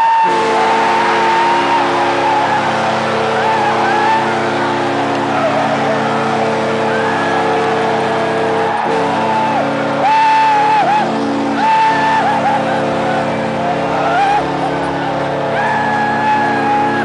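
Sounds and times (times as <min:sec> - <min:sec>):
arena crowd roaring: 0:00.0 - 0:17.0
held higher notes: 0:00.0 - 0:17.0
steady low drone: 0:00.0 - 0:17.0.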